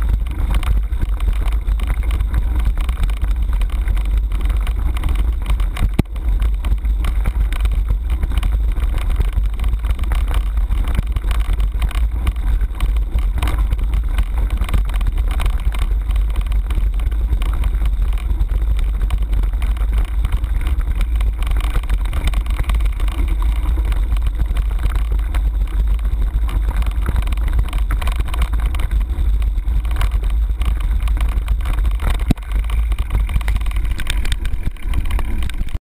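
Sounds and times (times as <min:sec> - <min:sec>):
bike rattling: 0:00.0 - 0:35.8.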